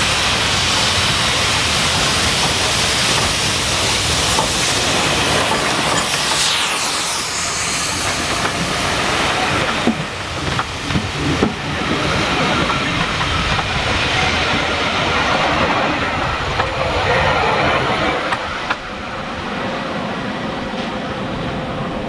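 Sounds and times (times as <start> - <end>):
train wheels clattering on rails: 0.0 - 18.9
steam hissing: 0.0 - 19.8.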